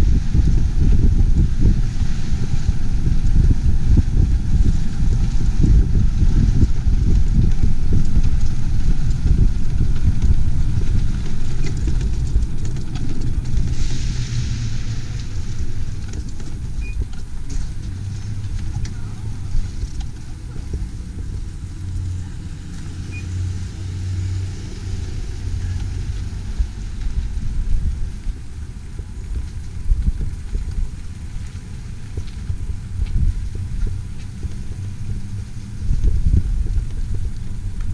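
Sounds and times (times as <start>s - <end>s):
faint engine hum: 0.0s - 37.9s
vehicle rumbling: 0.0s - 37.9s.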